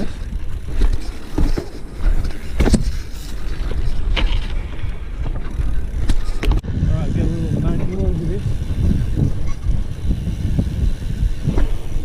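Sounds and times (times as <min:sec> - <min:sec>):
bike rolling over pavement: 0:00.0 - 0:12.0.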